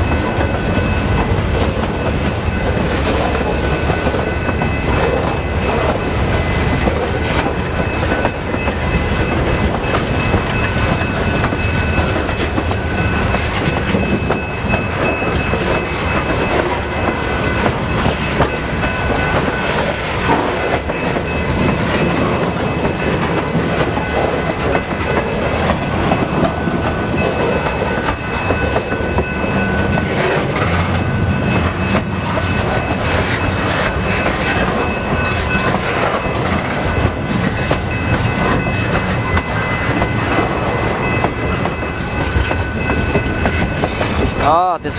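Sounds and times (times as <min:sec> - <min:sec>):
steady high ringing: 0:00.0 - 0:44.9.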